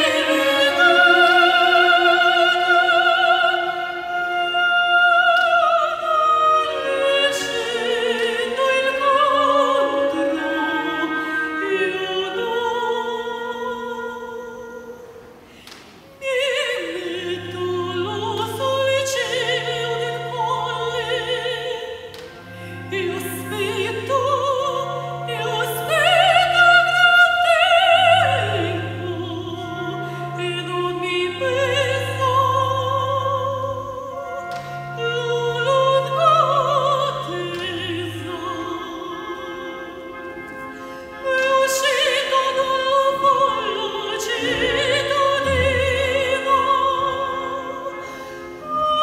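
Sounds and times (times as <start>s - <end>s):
opera singing with vibrato: 0.0s - 49.0s
orchestral accompaniment: 0.0s - 49.0s.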